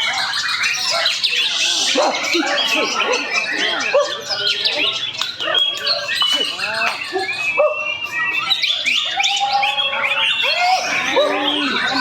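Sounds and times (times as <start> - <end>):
birds singing varied whistles: 0.0 - 12.0.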